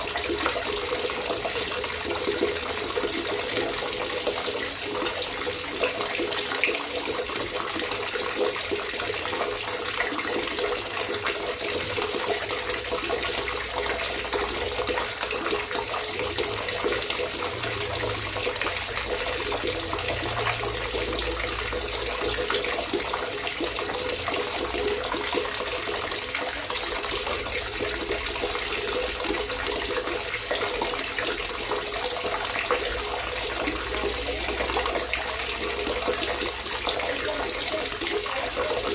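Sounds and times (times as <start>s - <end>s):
water trickling and gurgling: 0.0s - 38.9s.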